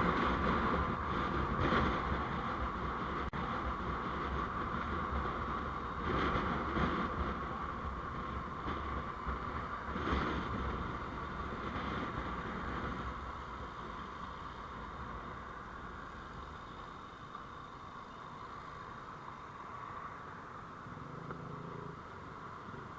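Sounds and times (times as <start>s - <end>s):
vehicle road noise: 0.0s - 22.9s.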